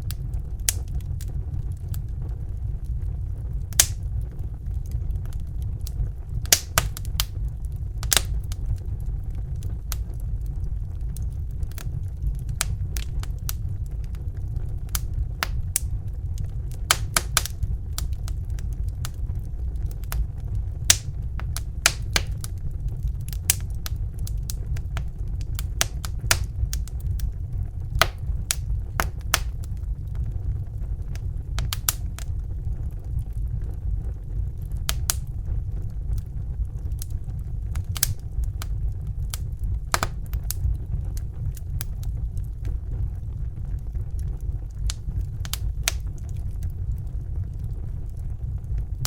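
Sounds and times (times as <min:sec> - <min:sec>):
fire crackling: 0:00.0 - 0:49.0
steady low rumble: 0:00.0 - 0:49.0.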